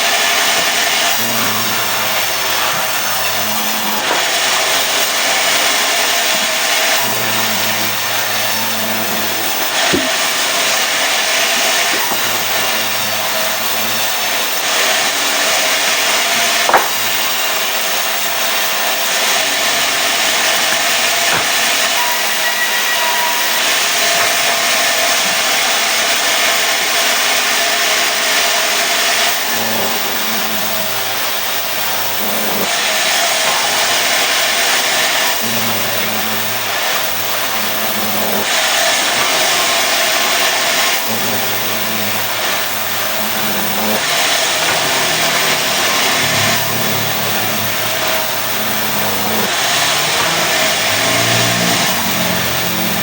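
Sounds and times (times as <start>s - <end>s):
sawmill saw cutting wood: 0.0s - 53.0s.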